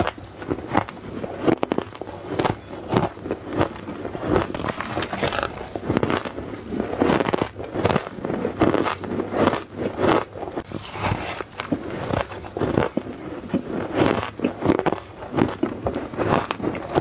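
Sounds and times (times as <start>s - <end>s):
crisp crunches of bitten ice: 0.1s - 17.0s.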